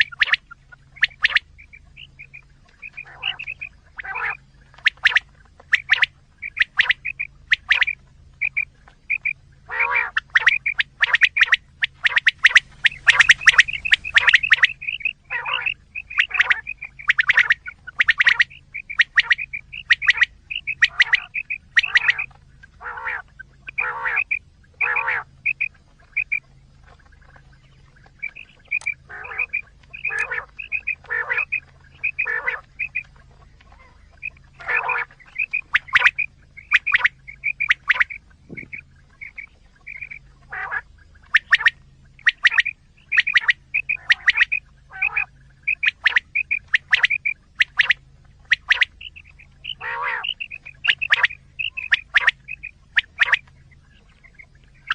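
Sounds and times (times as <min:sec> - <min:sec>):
faint low hum: 0:00.0 - 0:54.9
quail calling: 0:00.0 - 0:54.9.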